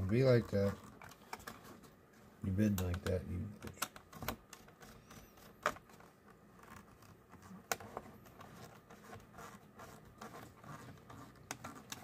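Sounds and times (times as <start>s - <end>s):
light scrapes and ticks: 0.0s - 1.9s, 2.6s - 12.0s.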